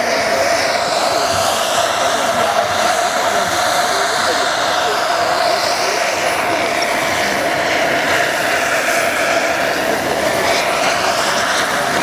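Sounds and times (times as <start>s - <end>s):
model helicopter flying: 0.0s - 12.0s.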